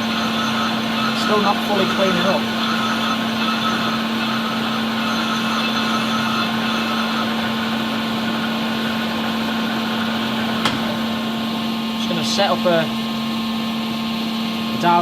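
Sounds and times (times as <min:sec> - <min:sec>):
metal lathe humming: 0:00.0 - 0:14.8.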